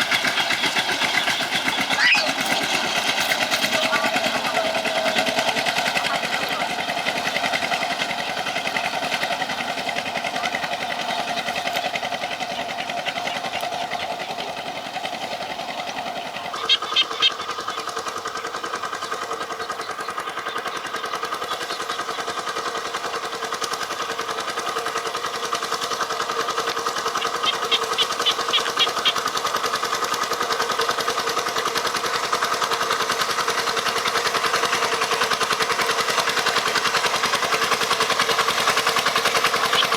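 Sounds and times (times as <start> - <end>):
tractor motor running: 0.0 - 39.9.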